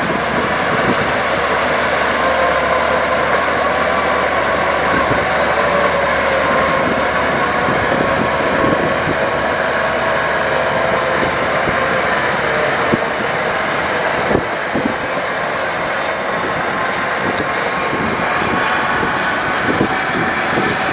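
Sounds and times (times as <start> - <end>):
heavy diesel machinery running: 0.0 - 20.9.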